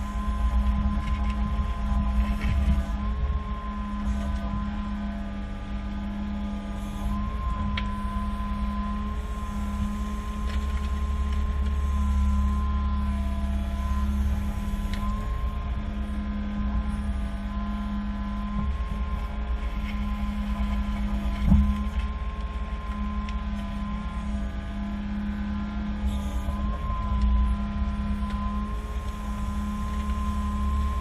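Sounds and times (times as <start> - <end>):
engine humming with faint whine: 0.0 - 31.0.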